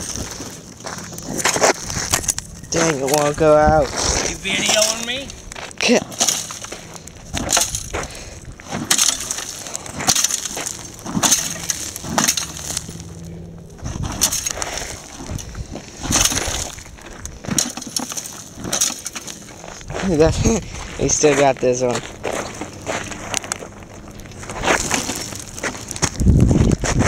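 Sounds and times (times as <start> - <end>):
boots scuffing gravelly dirt: 0.0 - 27.0.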